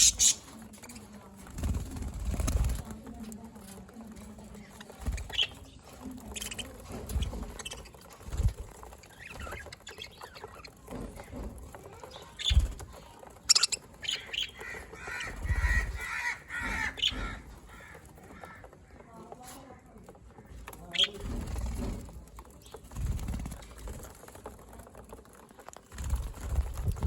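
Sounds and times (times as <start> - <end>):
budgerigars chirping and chattering: 0.0 - 23.6.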